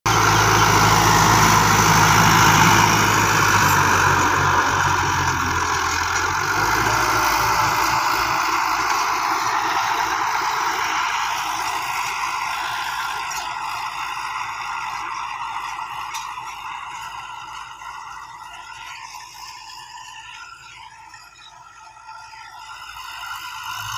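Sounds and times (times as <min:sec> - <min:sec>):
tractor diesel engine: 0:00.0 - 0:23.9
tiller churning soil: 0:00.1 - 0:23.9.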